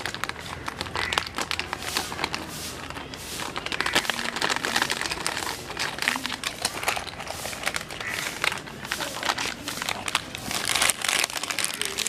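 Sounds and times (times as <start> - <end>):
dog crunching hard biscuit: 0.0 - 12.0.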